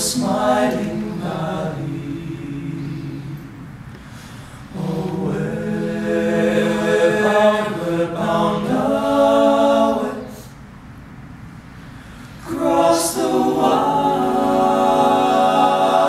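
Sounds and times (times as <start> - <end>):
male a cappella group singing: 0.0 - 3.7, 4.7 - 10.6, 12.4 - 16.0.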